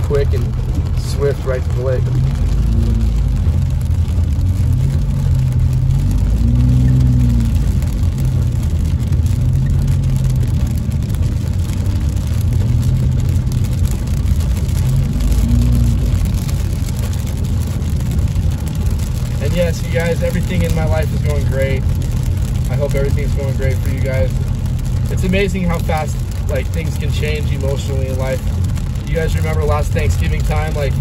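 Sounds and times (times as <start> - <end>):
car engine hum: 0.0 - 31.0
rain ticking on windshield: 0.0 - 31.0
tyres rumbling on wet pavement: 0.0 - 31.0.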